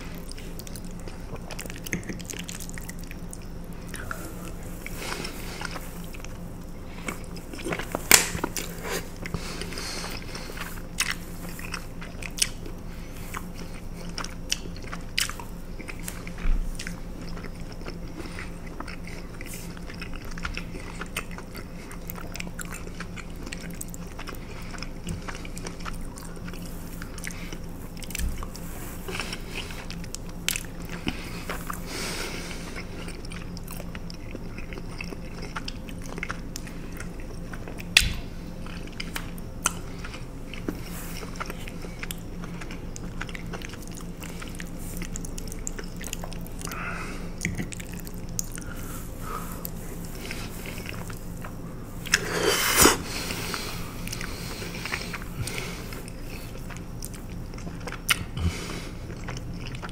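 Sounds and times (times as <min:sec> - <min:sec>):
person chewing with lips smacking: 0:00.0 - 0:59.9.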